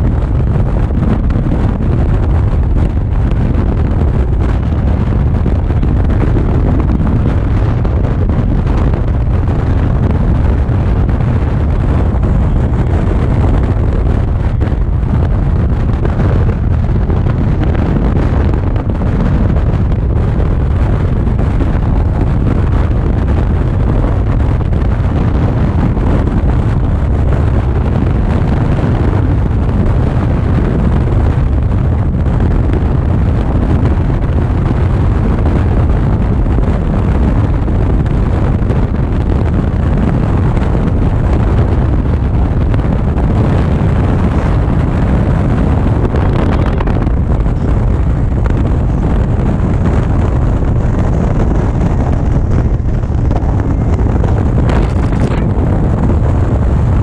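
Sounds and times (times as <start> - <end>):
motorcycle running: 0.0 - 57.0
road noise: 0.0 - 57.0
wind buffeting microphone: 0.0 - 57.0.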